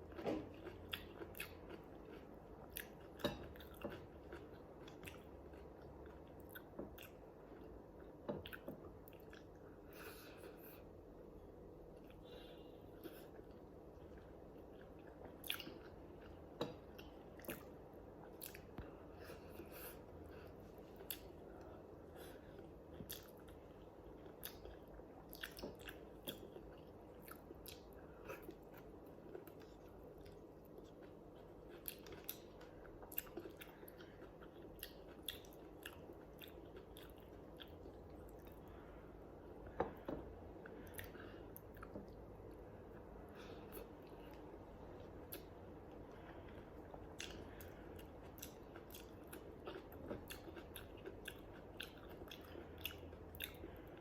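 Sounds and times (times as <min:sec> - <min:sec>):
person chewing food: 0:00.0 - 0:11.0, 0:11.8 - 0:54.0.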